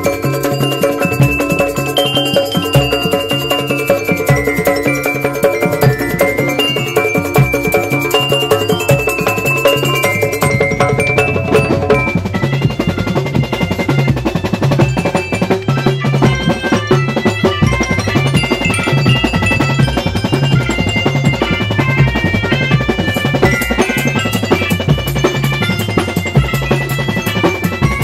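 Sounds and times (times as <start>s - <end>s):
drums steady beat: 0.0s - 28.0s
mallet percussion melody: 0.0s - 28.0s.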